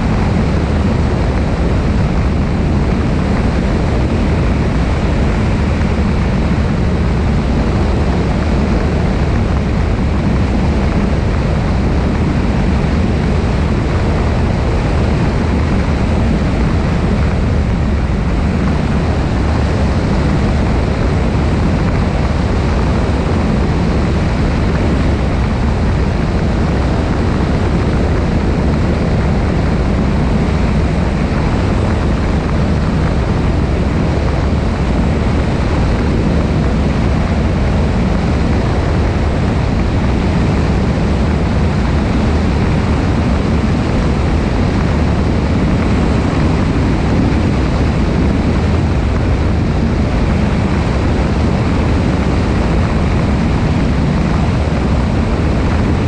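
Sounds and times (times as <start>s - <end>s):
airplane engine and propeller drone: 0.0s - 56.0s
wind rushing over camera: 0.0s - 56.0s.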